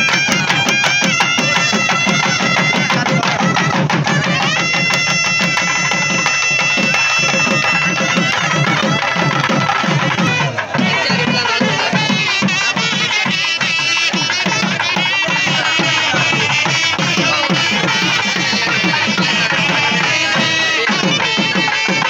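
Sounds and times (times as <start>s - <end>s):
fast drumming: 0.0s - 22.0s
shrill reed pipe melody: 0.0s - 22.0s.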